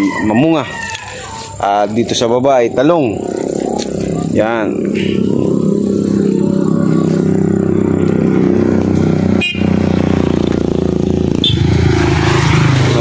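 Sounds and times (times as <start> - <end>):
vehicle engine running: 1.5 - 13.0.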